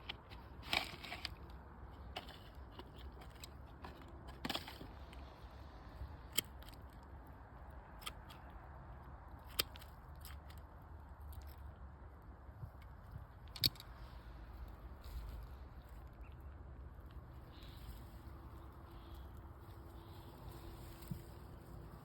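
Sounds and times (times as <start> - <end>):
small clicks and crackles: 0.0 - 22.0.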